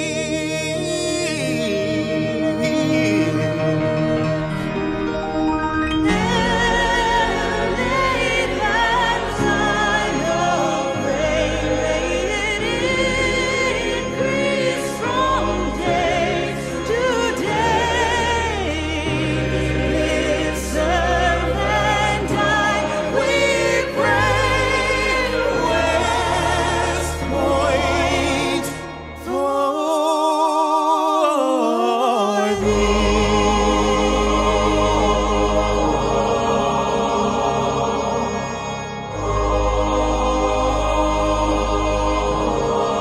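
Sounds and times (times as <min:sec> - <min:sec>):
choral singing with vibrato: 0:00.0 - 0:43.0.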